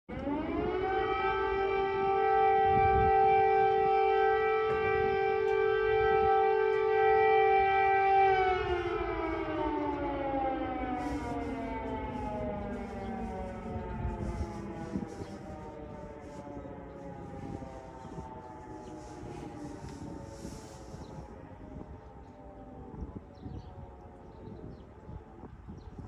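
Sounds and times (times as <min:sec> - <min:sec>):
air-raid siren wailing: 0:00.1 - 0:26.0.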